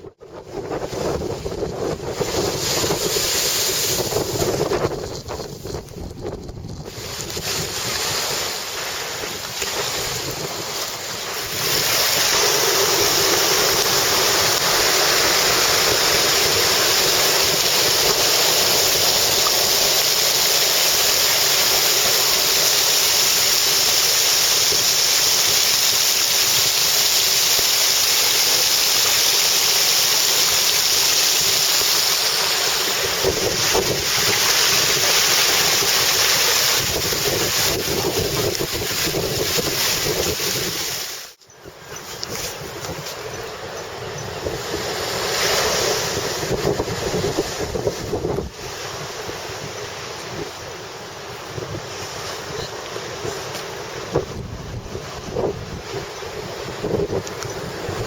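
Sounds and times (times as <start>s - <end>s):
surf roaring: 0.0s - 6.1s, 6.8s - 58.0s
strong wind: 0.0s - 58.0s.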